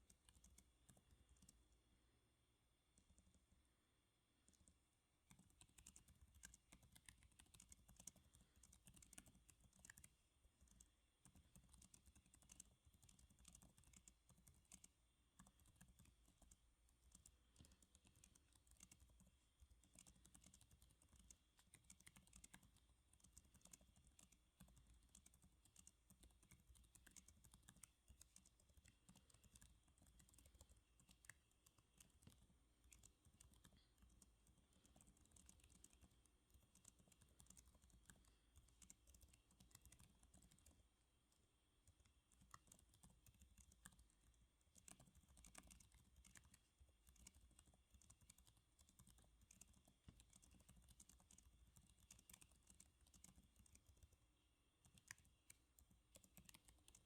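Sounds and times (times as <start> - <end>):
computer keyboard typing: 0.0 - 1.7, 3.0 - 3.5, 4.5 - 57.0.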